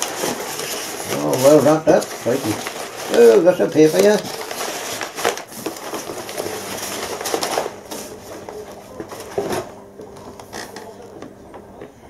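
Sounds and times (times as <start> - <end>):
packing paper rustling: 0.0 - 11.2.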